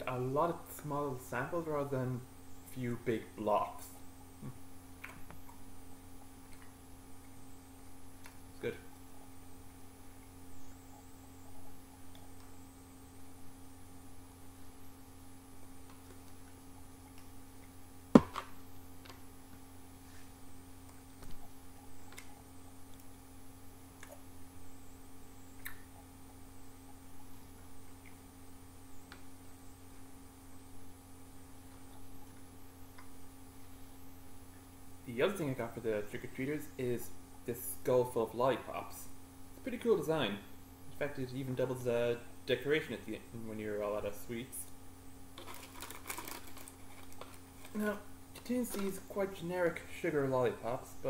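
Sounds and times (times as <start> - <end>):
low electrical hum: 0.0 - 51.0.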